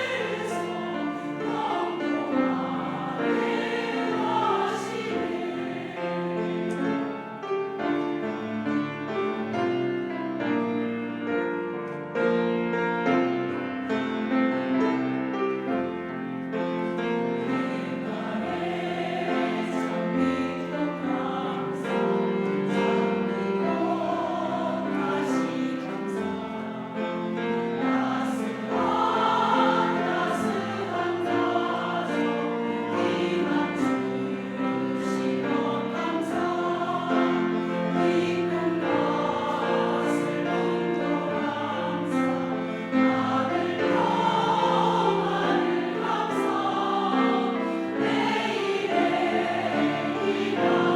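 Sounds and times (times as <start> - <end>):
choir singing in harmony: 0.0 - 50.9.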